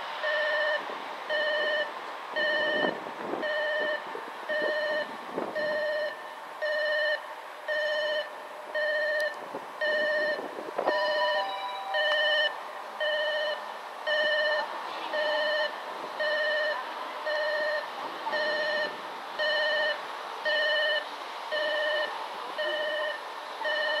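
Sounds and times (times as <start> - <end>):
railway warning alarm ringing: 0.2 - 24.0.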